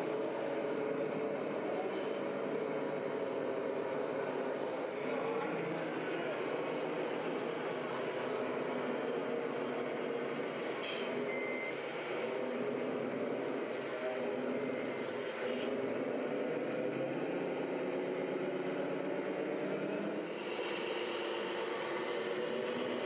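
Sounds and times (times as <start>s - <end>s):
simulated diesel engine sounds: 0.0s - 23.0s.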